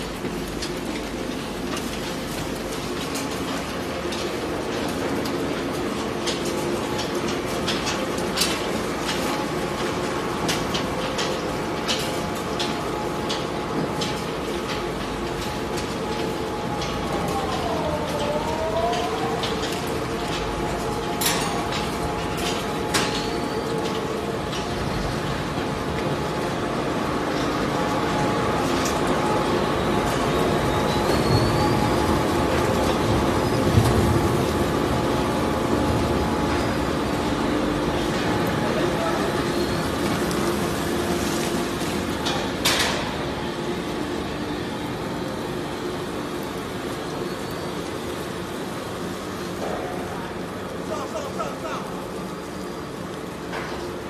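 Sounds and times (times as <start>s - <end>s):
waste grinder and conveyor humming: 0.0s - 54.0s.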